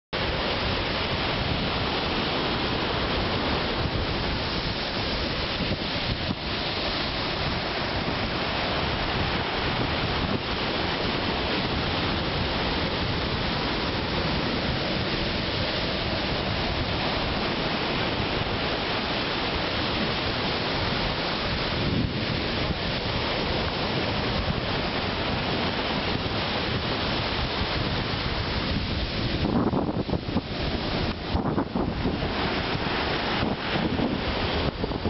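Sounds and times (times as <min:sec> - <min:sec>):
ocean surf breaking on beach: 0:00.2 - 0:35.0
wind on microphone: 0:00.2 - 0:35.0.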